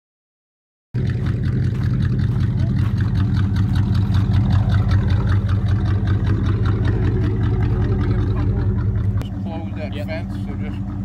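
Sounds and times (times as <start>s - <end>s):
truck engine idling: 1.0s - 11.0s.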